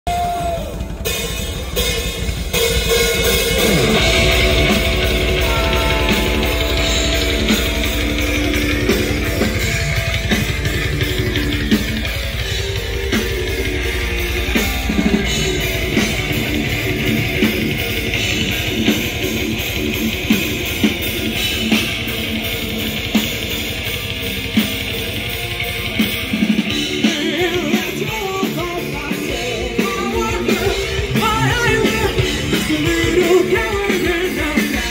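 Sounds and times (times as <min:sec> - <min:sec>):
rock band playing: 0:00.0 - 0:34.9.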